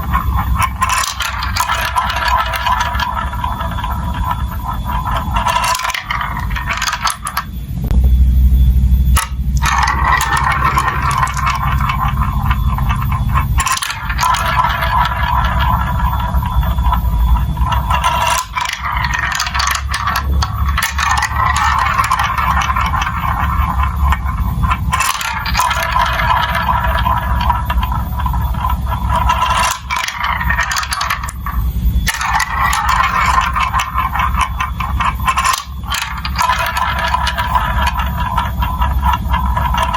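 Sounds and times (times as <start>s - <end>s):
marbles clattering on plastic tracks: 0.0s - 7.9s, 9.0s - 39.9s
steady low hum: 0.0s - 39.9s.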